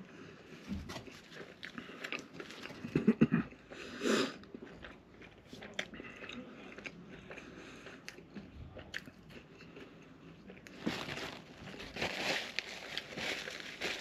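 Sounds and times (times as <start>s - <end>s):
person chewing food: 0.1s - 14.0s.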